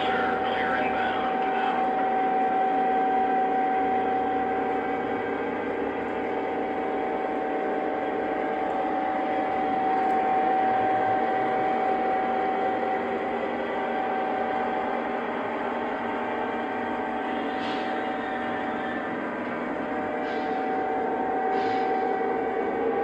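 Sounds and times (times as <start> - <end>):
model train humming: 0.0 - 23.0.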